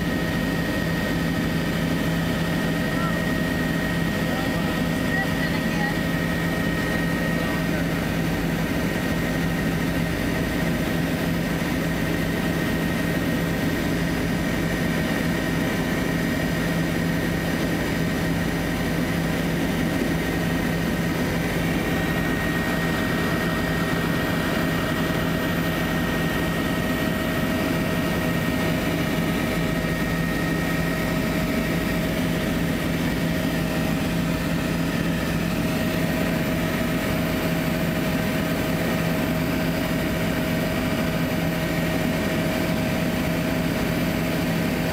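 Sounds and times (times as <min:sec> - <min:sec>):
constant high whine: 0:00.0 - 0:44.9
helicopter engine and rotor noise: 0:00.0 - 0:44.9.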